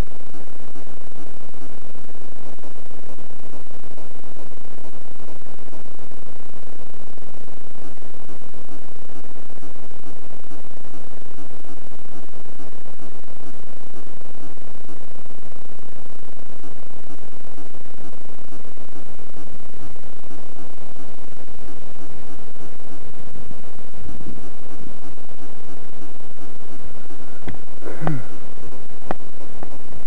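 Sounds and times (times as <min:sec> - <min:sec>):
microphone static hiss: 0:00.0 - 0:30.0.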